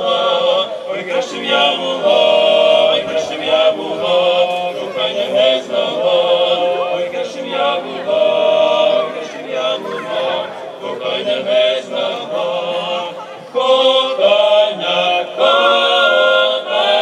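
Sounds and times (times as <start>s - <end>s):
male vocal quartet singing: 0.0s - 17.0s.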